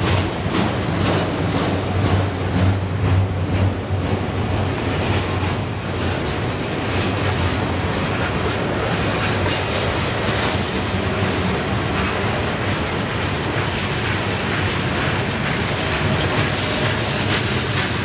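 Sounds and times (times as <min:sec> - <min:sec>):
freight train rumbling past: 0:00.0 - 0:18.0
wheels clicking over rail joints: 0:00.0 - 0:18.0.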